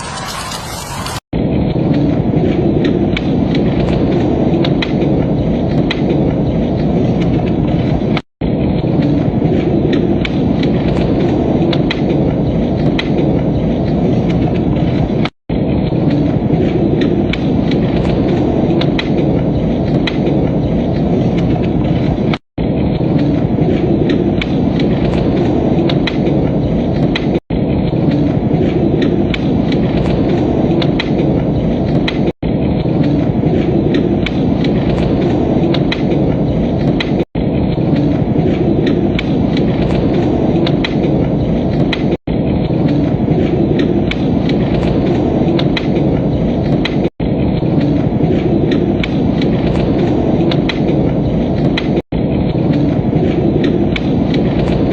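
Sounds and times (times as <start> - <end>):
fire crackling and popping: 0.0 - 54.9
steady low rumble: 0.0 - 54.9.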